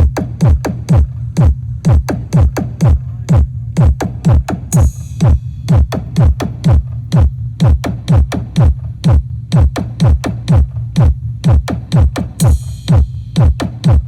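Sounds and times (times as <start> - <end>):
deep kick drum: 0.0 - 14.0
electronic dance music: 0.0 - 14.0.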